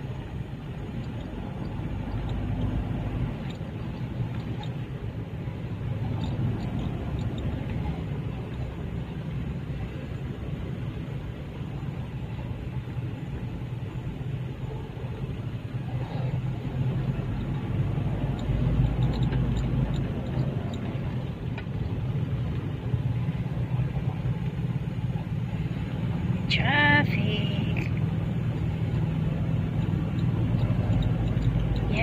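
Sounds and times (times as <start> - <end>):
car engine rumble: 0.0 - 32.0
traffic: 0.0 - 32.0.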